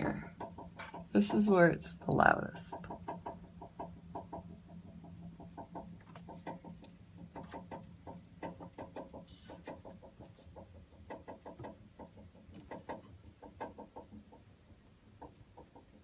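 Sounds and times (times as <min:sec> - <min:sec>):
water heater knocking and rattling: 0:00.0 - 0:16.0.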